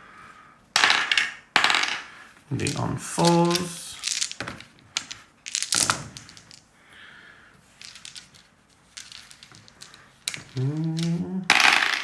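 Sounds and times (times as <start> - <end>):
dice rattling on a table: 0.8 - 6.7, 7.7 - 12.0.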